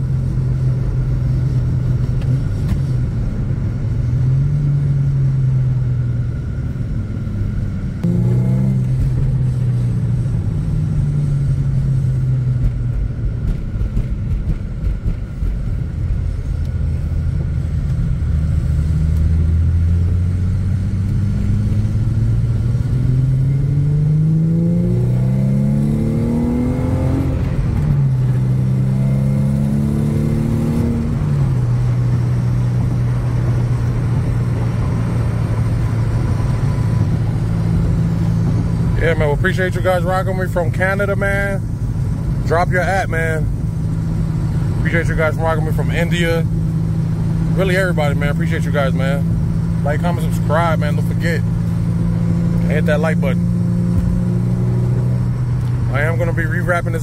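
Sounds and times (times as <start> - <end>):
car engine accelerating in cabin: 0.0 - 57.0.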